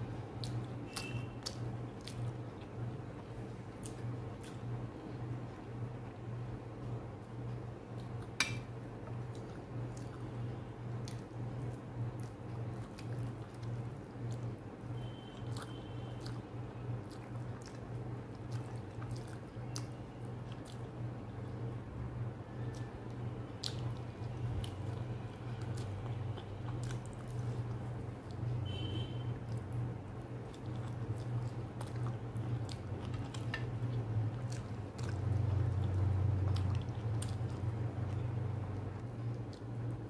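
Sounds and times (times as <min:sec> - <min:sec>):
wet squishes of eating by hand: 0:00.0 - 0:05.8, 0:06.8 - 0:40.0
steady low hum: 0:00.0 - 0:40.0.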